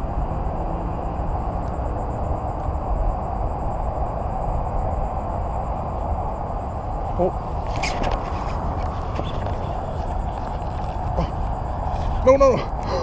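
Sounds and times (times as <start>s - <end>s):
insect trill: 0.0s - 13.0s
wind rumble on microphone: 0.0s - 13.0s.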